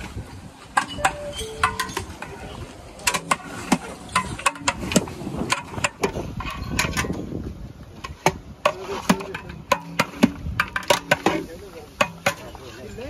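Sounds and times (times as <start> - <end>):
metal spatulas clanking on steel pots: 0.7 - 7.4, 8.0 - 13.0.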